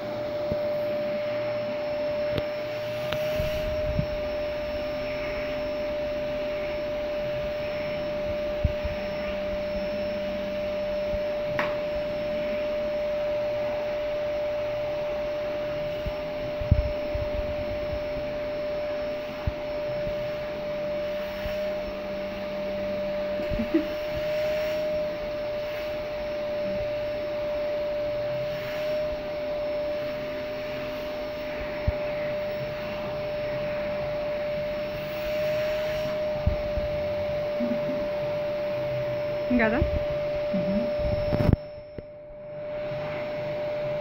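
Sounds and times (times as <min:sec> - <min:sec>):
vacuum cleaner whining: 0:00.0 - 0:44.0.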